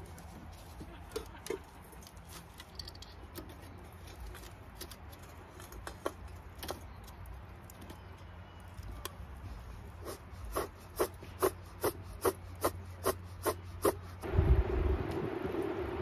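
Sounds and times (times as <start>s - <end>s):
twig fire crackling: 0.0s - 16.0s.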